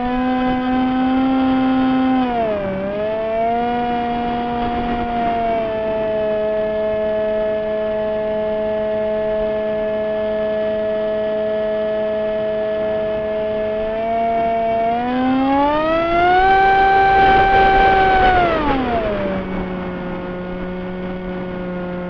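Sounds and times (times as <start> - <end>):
electric motor and propeller whining: 0.0 - 22.0.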